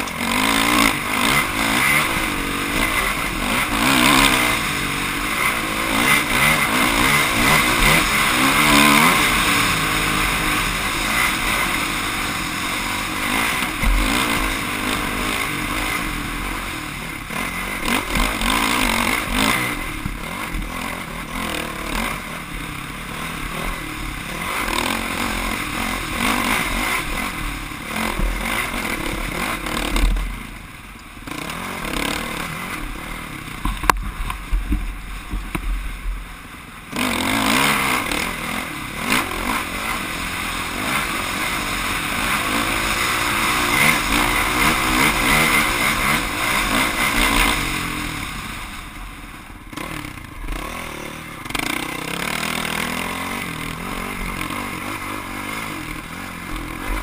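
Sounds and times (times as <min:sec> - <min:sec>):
motorcycle engine revving: 0:00.0 - 0:57.0
steady rushing noise: 0:00.0 - 0:57.0.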